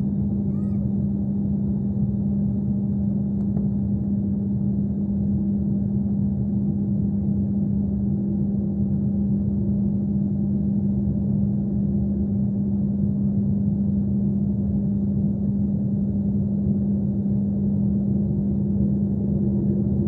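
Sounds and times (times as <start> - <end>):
airliner cabin hum: 0.0 - 11.8, 14.9 - 20.0.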